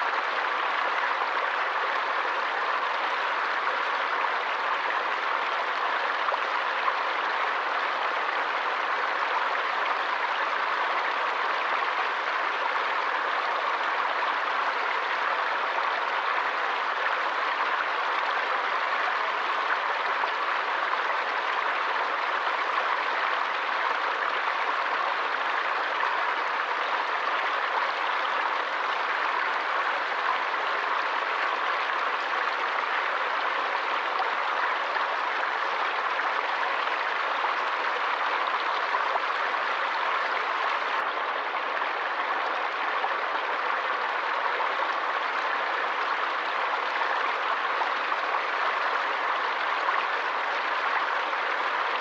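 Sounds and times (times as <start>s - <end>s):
stream rushing over rocks: 0.0s - 52.0s.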